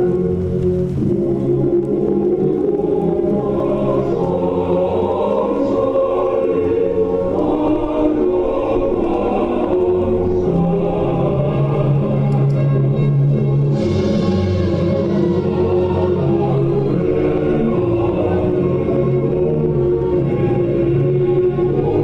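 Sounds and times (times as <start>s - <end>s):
choir singing an anthem: 0.0s - 22.0s
instrumental accompaniment: 0.0s - 22.0s.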